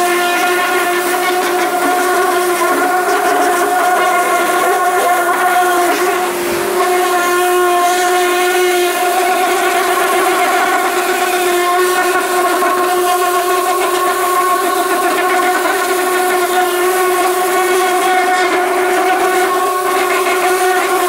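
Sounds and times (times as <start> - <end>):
pressure washer jet hissing: 0.0 - 21.0
pump whine: 0.0 - 21.0.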